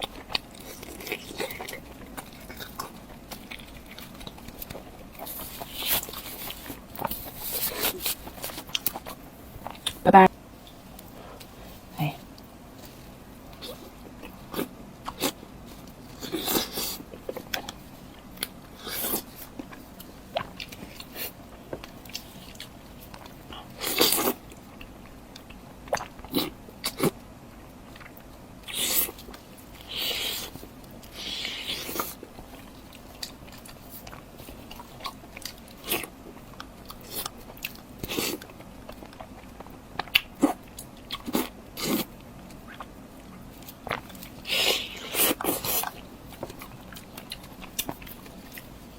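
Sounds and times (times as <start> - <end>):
person chewing crunchy food: 0.0 - 10.0, 10.6 - 48.9.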